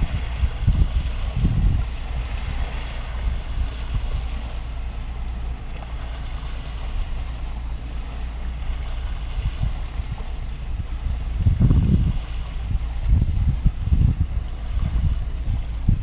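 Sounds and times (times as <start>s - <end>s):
wind on the microphone: 0.0s - 16.0s.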